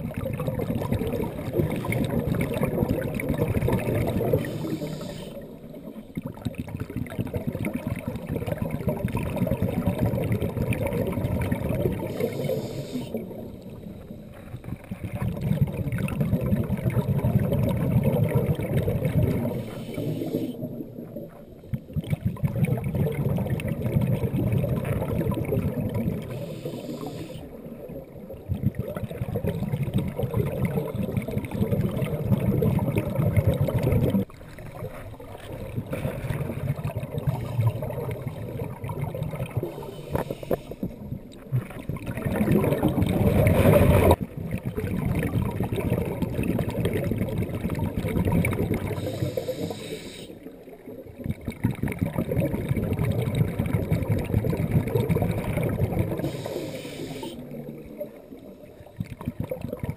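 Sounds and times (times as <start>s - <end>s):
underwater breath bubbling: 0.0s - 59.9s.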